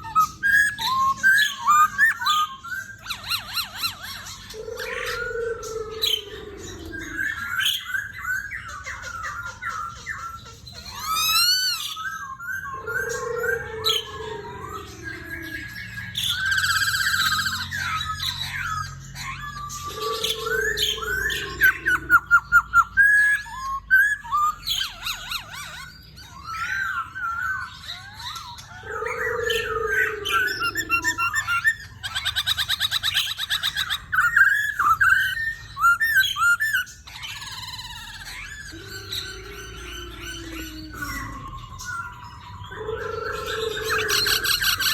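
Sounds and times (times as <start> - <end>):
bird singing rich whistles and trills: 0.0 - 44.9.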